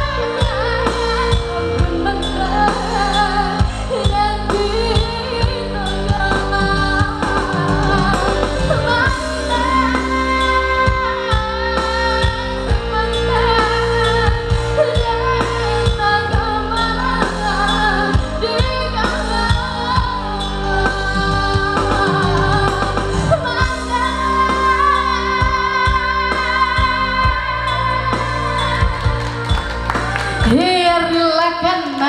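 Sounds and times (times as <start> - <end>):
amplified backing music: 0.0 - 32.0
woman singing into microphone: 0.0 - 32.0.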